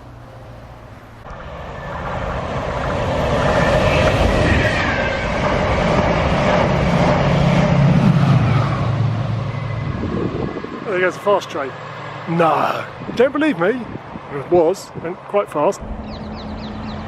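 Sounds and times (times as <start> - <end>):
passenger train passing at speed: 0.0 - 17.0.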